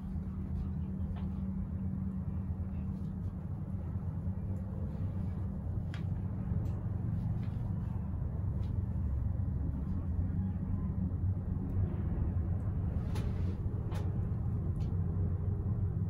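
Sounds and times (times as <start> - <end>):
cable car cabin rumble and hum: 0.0 - 16.0.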